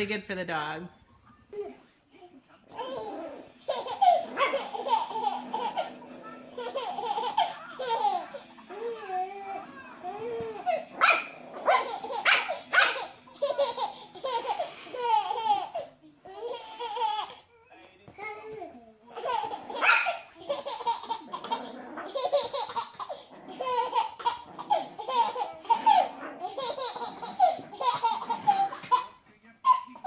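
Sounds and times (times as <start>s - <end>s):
baby laughing: 1.5s - 10.9s, 11.6s - 17.5s, 18.2s - 30.0s.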